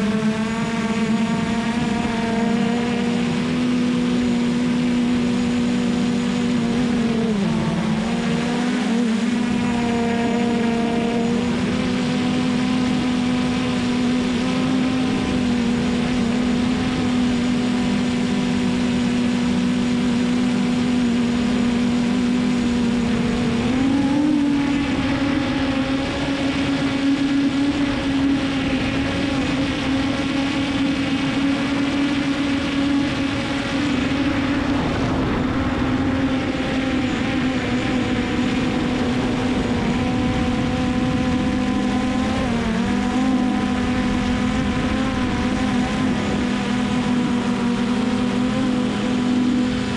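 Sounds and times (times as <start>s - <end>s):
drone motors humming: 0.0s - 49.9s.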